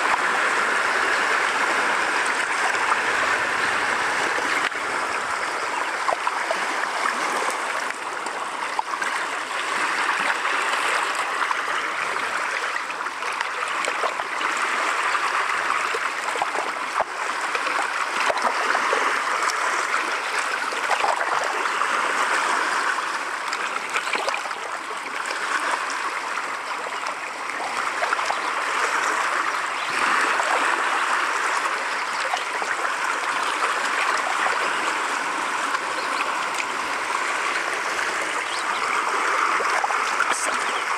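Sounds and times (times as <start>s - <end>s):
lake waves lapping on rocks: 0.0s - 40.9s.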